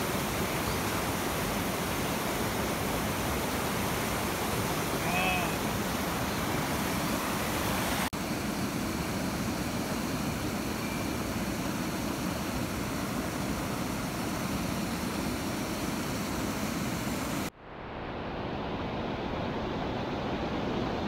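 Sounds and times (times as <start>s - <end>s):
river water rushing over rapids: 0.0s - 21.0s.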